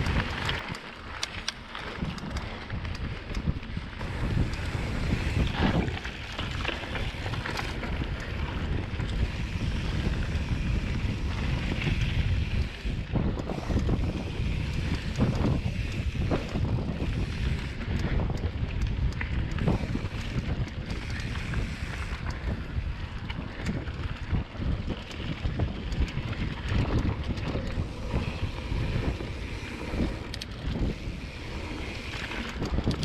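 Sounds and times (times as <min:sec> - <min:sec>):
bike rumbling on dirt trail: 0:00.0 - 0:33.0
wind buffeting microphone: 0:00.0 - 0:33.0.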